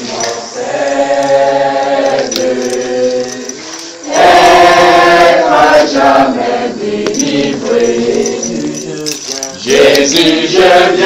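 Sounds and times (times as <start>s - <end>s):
congregation singing a hymn: 0.0s - 11.0s.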